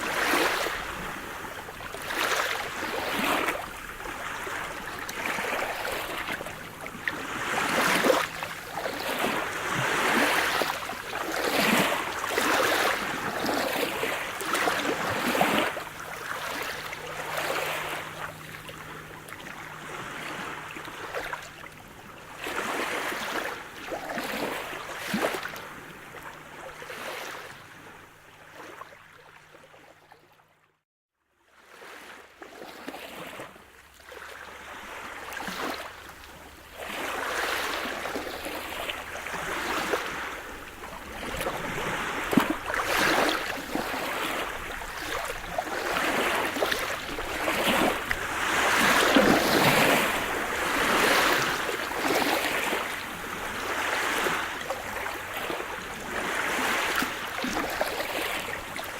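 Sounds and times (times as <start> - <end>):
waves breaking on shore: 0.0 - 29.2, 31.6 - 58.9.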